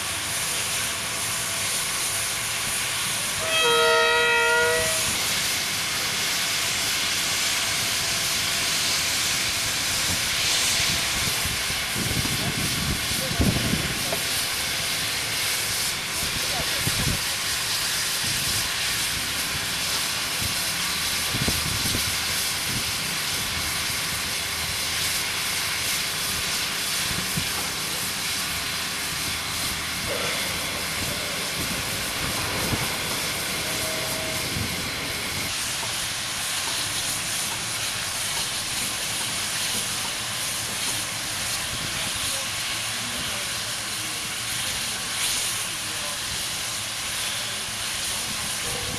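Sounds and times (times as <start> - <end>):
steam hissing from locomotives: 0.0 - 48.9.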